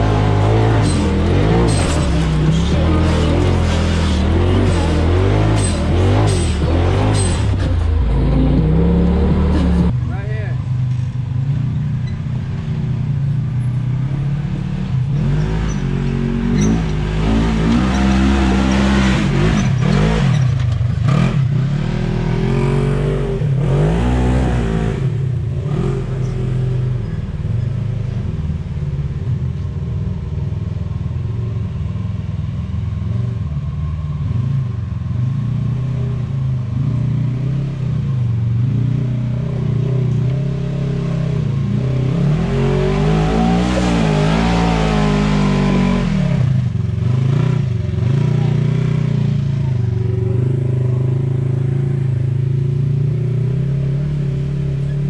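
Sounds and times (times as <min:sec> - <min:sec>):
off-road vehicle engine revving: 0:00.0 - 0:29.2, 0:33.1 - 0:55.0.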